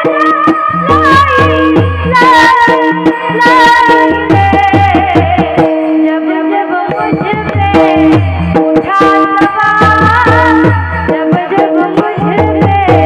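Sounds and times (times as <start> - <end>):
tabla rhythmic beat: 0.0 - 13.0.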